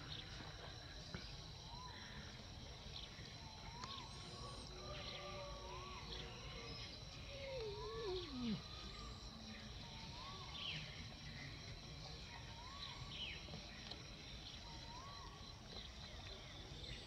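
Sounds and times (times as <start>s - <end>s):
faint squeaky calls: 3.2s - 17.0s.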